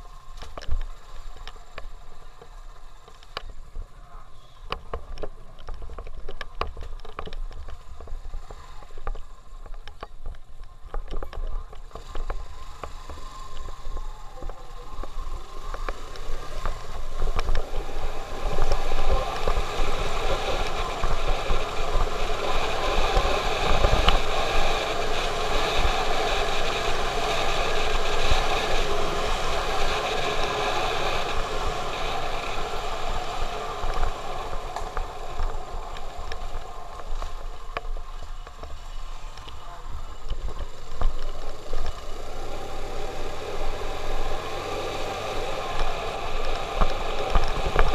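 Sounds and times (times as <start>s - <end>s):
tyres on rough concrete road: 0.0s - 47.9s
motorcycle engine running: 5.7s - 47.9s.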